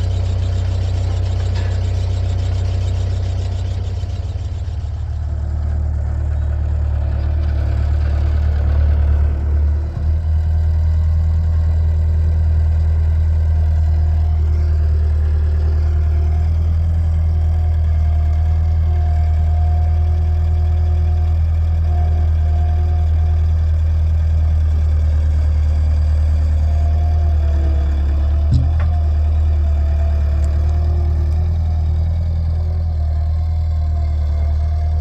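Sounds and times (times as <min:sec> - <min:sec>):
engine droning steadily: 0:00.0 - 0:35.0.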